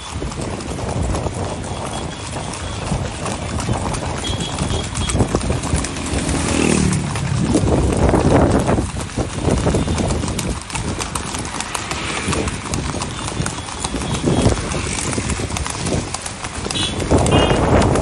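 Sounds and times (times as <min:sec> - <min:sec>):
horse hooves on paved road: 0:00.0 - 0:18.0.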